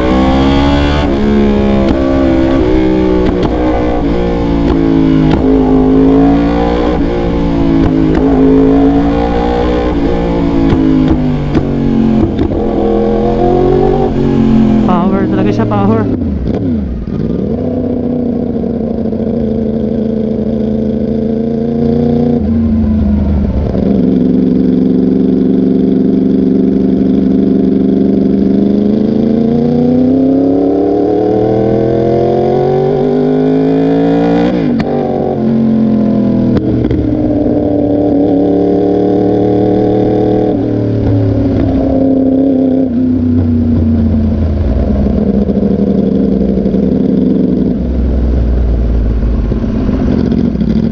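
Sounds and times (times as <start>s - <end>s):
motorcycle engine revving loud: 0.0s - 50.9s.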